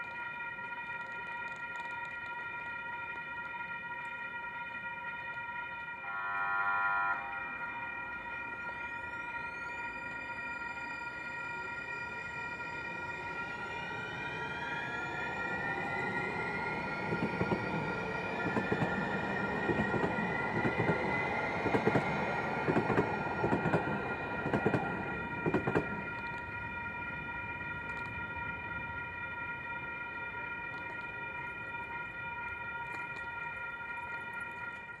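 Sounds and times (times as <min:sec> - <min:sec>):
tram motor whine: 0:00.0 - 0:35.0
steady high-pitched tone: 0:00.1 - 0:35.0.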